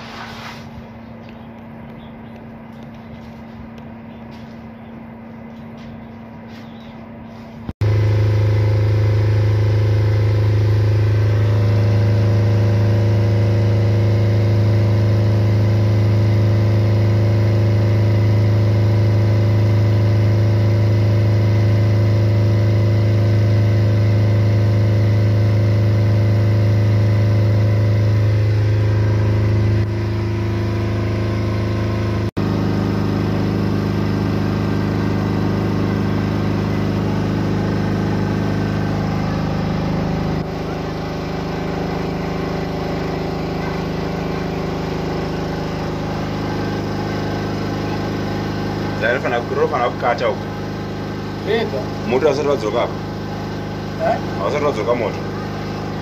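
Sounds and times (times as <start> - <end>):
diesel generator humming: 0.0 - 56.0.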